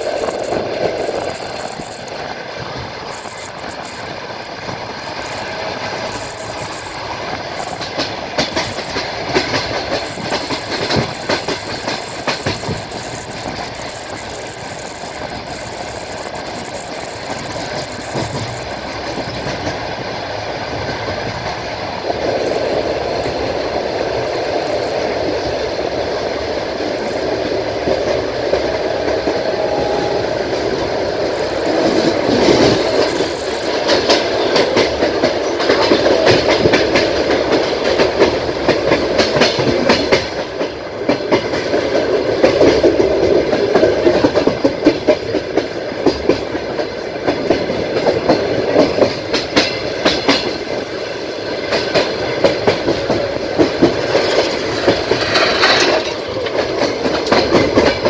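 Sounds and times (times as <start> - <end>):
train wheels rumbling on track: 0.0 - 58.0
wheels clacking over rail joints: 0.0 - 58.0.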